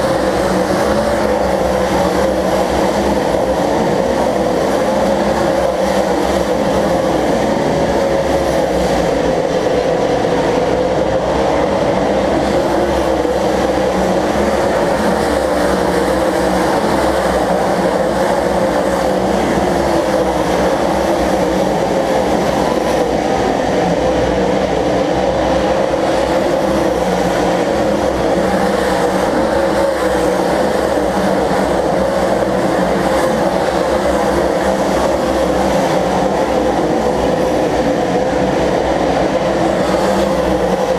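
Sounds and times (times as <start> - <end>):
race car engines droning: 0.0 - 40.9.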